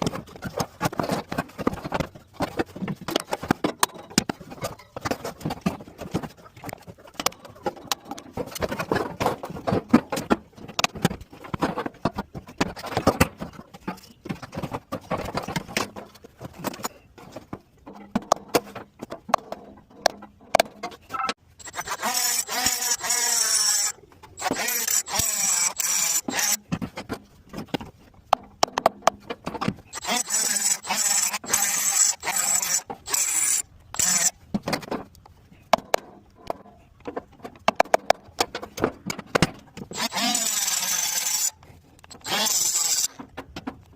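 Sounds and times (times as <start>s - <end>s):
tools and metal parts knocking: 0.0s - 43.9s.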